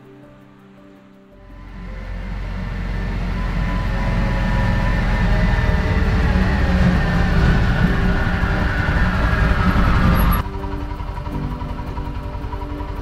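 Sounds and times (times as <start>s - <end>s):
quad engine low rumble: 1.4s - 13.0s.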